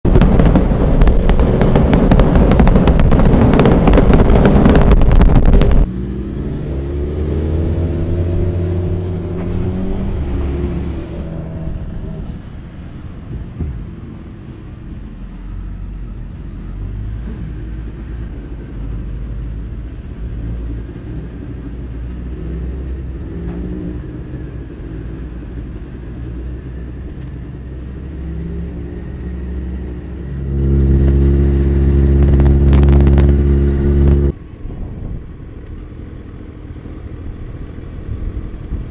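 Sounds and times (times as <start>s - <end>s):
loud steady engine note: 0.1s - 38.9s.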